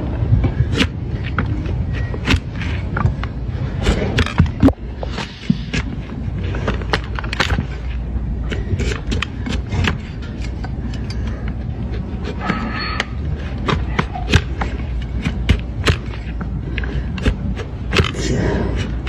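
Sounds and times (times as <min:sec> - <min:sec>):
tools cutting and scraping hoof: 0:00.0 - 0:19.0.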